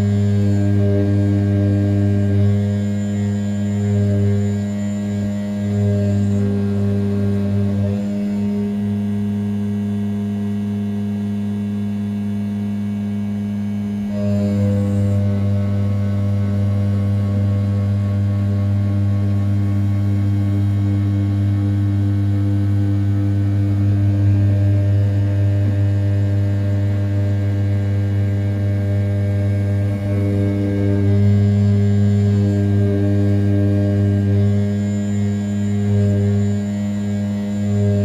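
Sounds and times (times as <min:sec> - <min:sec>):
milling machine droning: 0:00.0 - 0:38.0.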